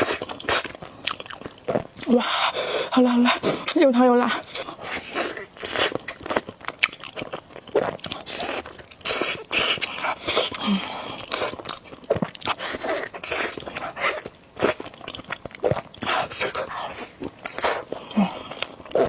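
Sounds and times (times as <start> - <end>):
wet chewing and biting: 0.0 - 19.0.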